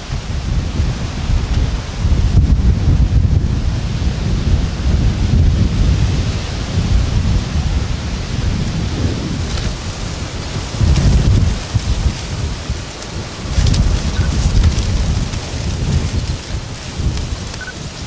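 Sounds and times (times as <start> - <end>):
steady hiss: 0.0 - 18.0
wind buffeting microphone: 0.0 - 18.0.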